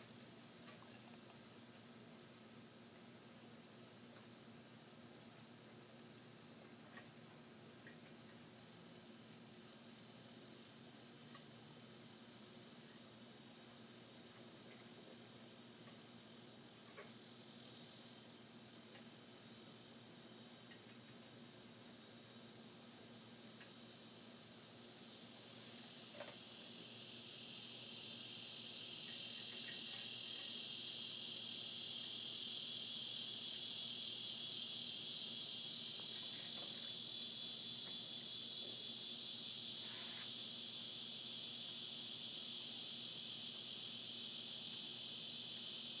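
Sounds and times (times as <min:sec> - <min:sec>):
cicadas buzzing: 0:00.0 - 0:46.0.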